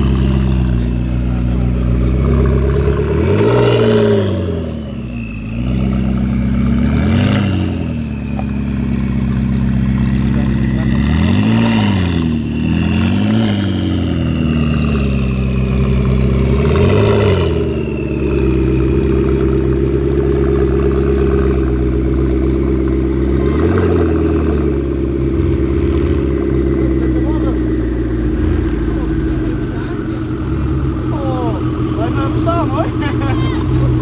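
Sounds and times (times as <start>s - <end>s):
car engine idling and revving: 0.0s - 34.0s.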